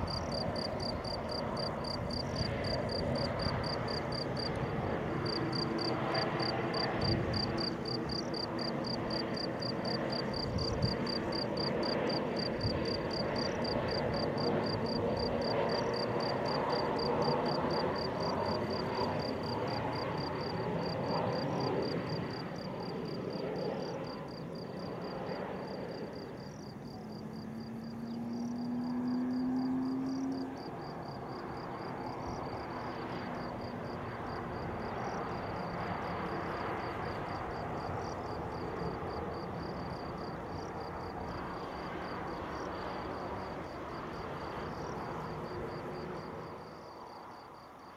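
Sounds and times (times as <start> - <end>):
distant jet engine rumble: 0.0 - 47.9
insect chirping: 0.0 - 47.9.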